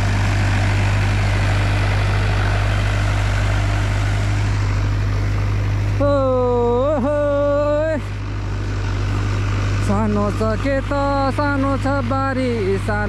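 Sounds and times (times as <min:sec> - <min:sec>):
tractor diesel engine drone: 0:00.0 - 0:13.0.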